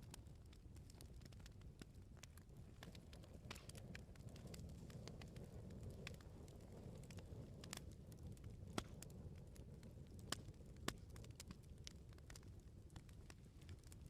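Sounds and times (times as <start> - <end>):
bonfire crackling and popping: 0.0 - 14.0
low rush of flames: 0.0 - 14.0.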